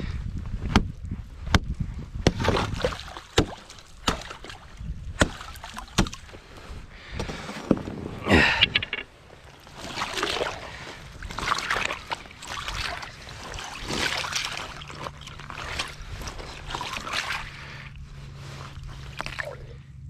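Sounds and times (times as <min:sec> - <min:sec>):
water sloshing and splashing: 0:02.2 - 0:20.0.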